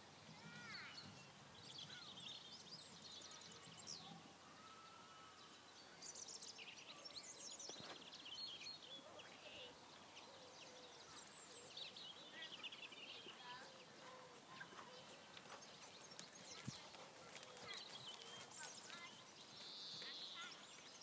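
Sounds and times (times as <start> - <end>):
outdoor background hiss: 0.0 - 21.0
birds chirping and whistling: 0.5 - 21.0.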